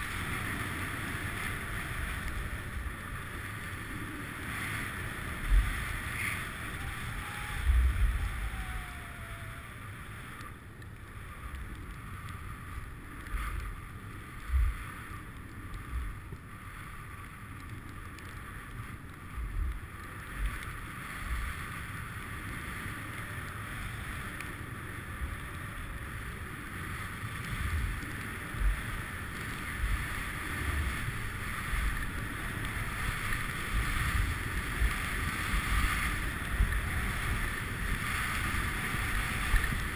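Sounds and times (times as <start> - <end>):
skis sliding on snow: 0.0 - 10.4, 11.0 - 39.9
wind rushing over microphone: 0.0 - 39.9.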